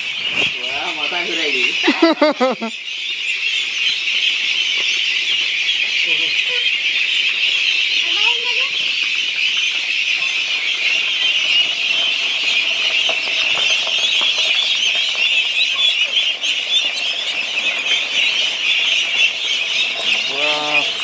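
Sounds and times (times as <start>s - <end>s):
ducklings peeping: 0.0s - 21.0s.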